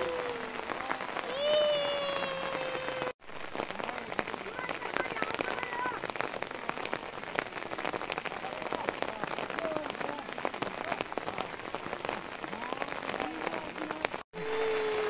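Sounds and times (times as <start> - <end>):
rain falling: 0.0 - 15.0
raindrop hits: 0.0 - 15.0.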